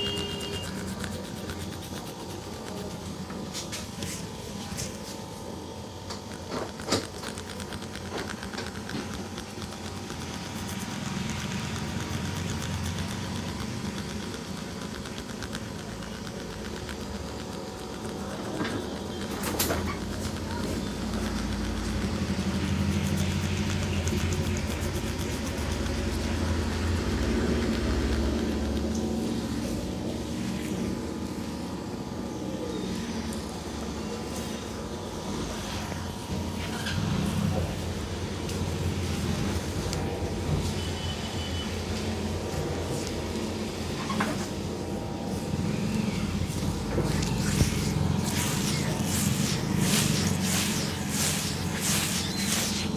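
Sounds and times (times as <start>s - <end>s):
low rumble of street traffic: 0.0s - 52.9s.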